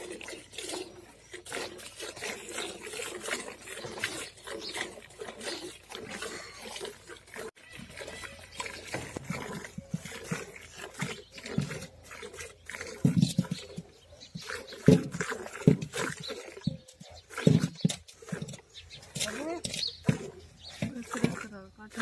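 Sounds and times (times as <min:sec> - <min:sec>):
milk squirting into bucket: 0:00.0 - 0:22.0.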